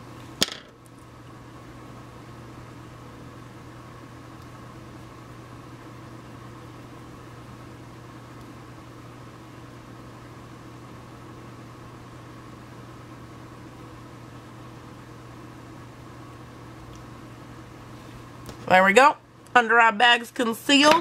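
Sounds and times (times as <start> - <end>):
low hum with hiss: 0.0 - 21.0.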